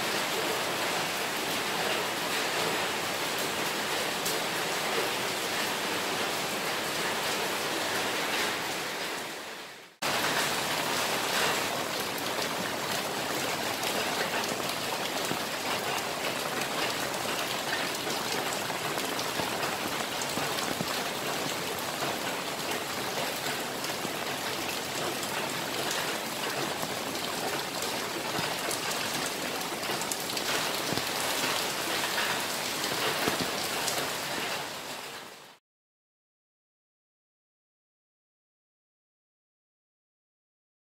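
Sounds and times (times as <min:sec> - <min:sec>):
heavy rain falling: 0:00.0 - 0:35.6.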